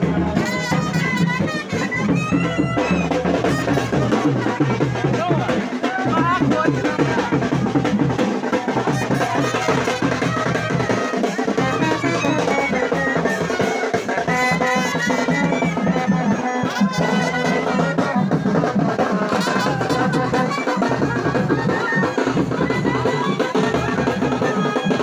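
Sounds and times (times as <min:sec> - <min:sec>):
brass horns playing tune: 0:00.0 - 0:05.0, 0:08.9 - 0:24.3
steady drum beat: 0:00.0 - 0:25.0.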